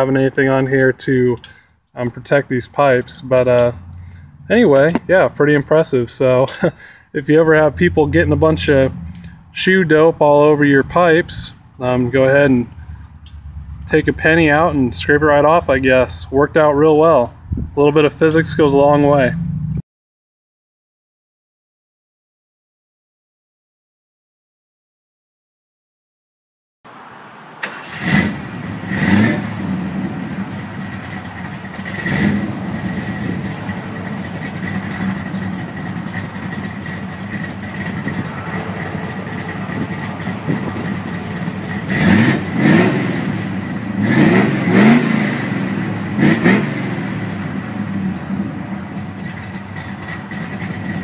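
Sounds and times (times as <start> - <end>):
car engine idling and revving: 1.4 - 19.8, 26.9 - 51.0.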